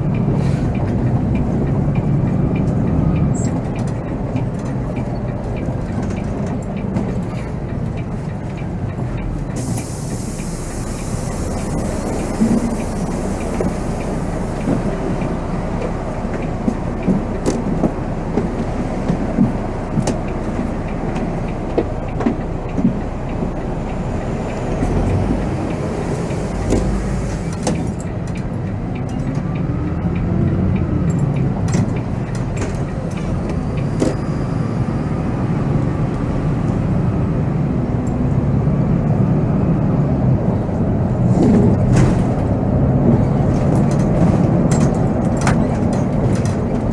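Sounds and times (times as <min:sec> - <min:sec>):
diesel engine rumble: 0:00.0 - 0:46.9
road noise: 0:00.0 - 0:46.9.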